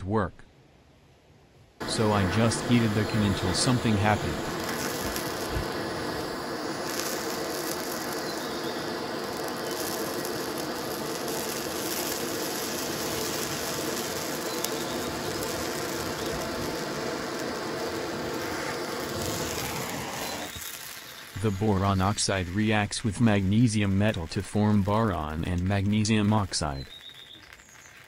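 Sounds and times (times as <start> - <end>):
butane torch hissing: 1.8 - 28.0.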